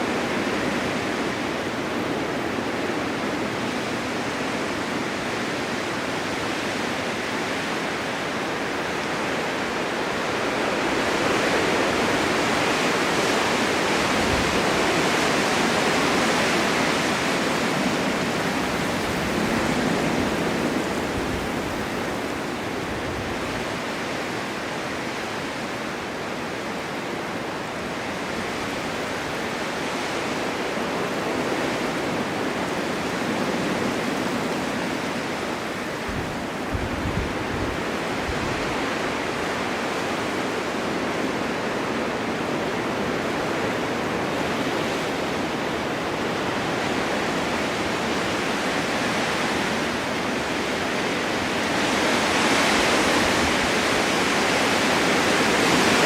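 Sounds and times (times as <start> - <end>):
blizzard wind driving snow: 0.0 - 56.0.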